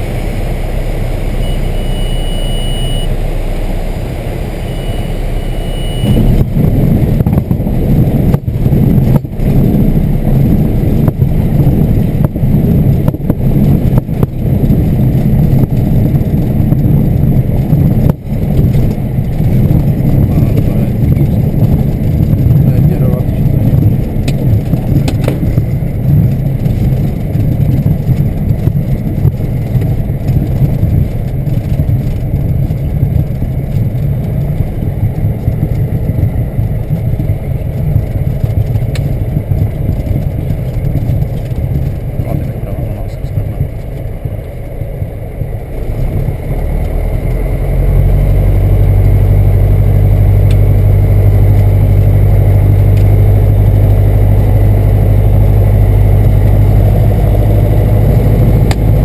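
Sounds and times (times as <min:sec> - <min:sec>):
propeller plane engine rumble: 0:00.0 - 0:59.0.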